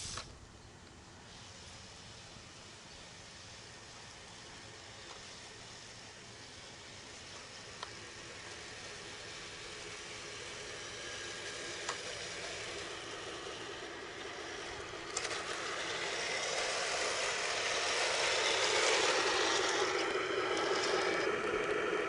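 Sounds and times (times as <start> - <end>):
toy tank mechanical noise: 0.0 - 0.4, 1.2 - 22.0.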